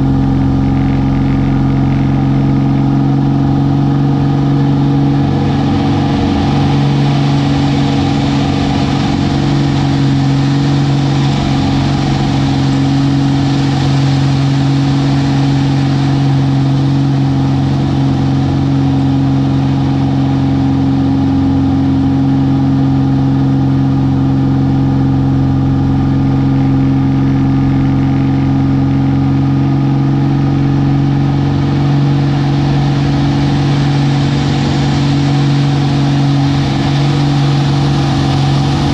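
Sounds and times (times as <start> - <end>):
airplane engine and propeller: 0.0 - 38.9.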